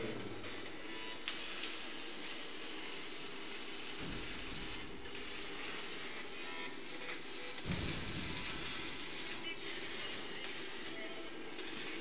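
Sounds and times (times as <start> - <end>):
welding arc crackling: 1.3 - 7.1, 7.7 - 12.0.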